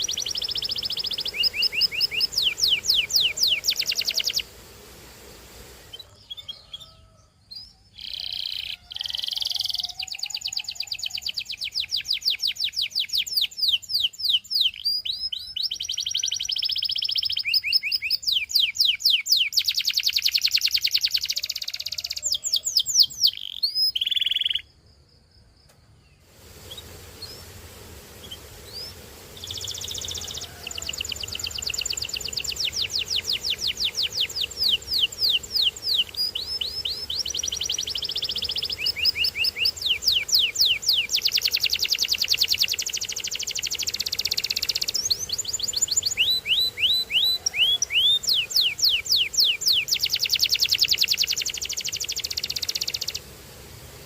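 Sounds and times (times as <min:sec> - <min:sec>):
canary singing trills: 0:00.0 - 0:04.5, 0:05.8 - 0:24.8, 0:28.2 - 0:53.3.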